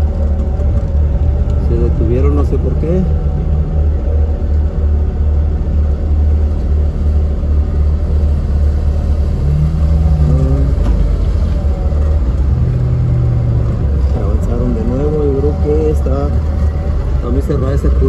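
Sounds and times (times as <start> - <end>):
car engine idling low rumble: 0.0 - 18.0.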